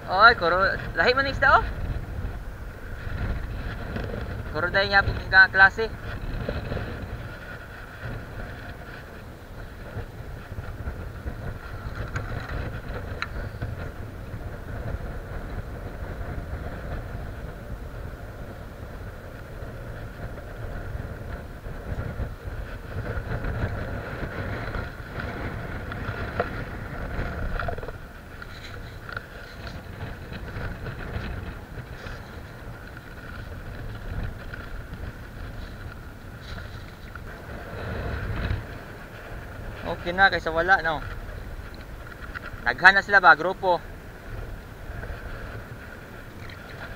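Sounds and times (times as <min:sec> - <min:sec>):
sea washing against breakwater: 0:00.0 - 0:46.9
wind rumbling on microphone: 0:00.0 - 0:46.9.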